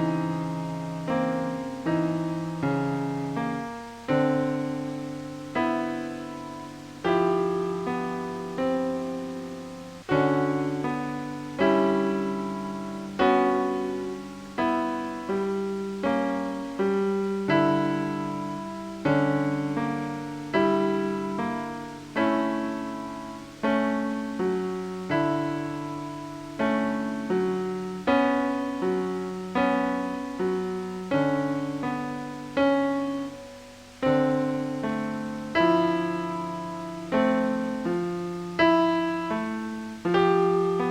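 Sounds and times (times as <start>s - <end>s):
slow ambient piano music: 0.0s - 40.9s.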